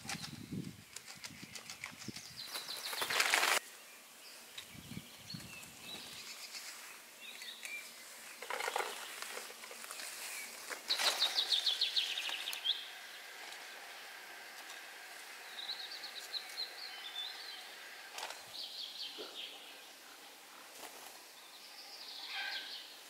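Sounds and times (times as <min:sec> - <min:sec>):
rustling of soil and plant pots: 0:00.0 - 0:23.0
songbirds singing: 0:00.0 - 0:23.0.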